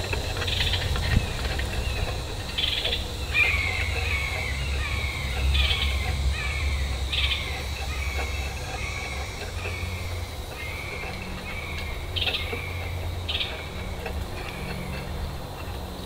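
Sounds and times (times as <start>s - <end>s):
low wind rumble: 0.0s - 16.0s
bird chirping: 0.4s - 15.8s.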